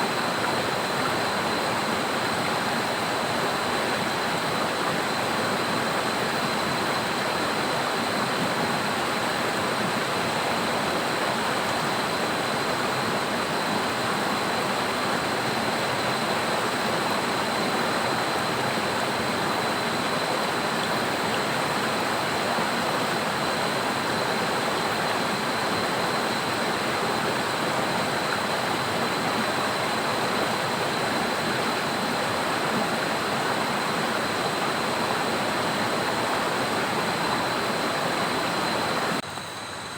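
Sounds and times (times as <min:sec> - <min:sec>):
heavy rain and rushing river: 0:00.0 - 0:39.3.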